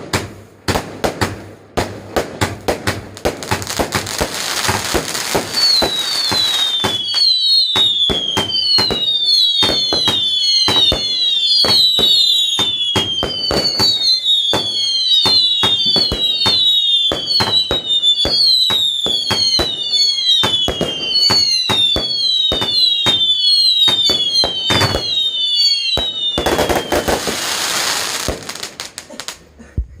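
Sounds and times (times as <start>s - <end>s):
dense firework crackling: 0.0s - 29.4s
firework bangs and cracks: 0.0s - 29.4s
firework whistles falling in pitch: 4.0s - 28.9s.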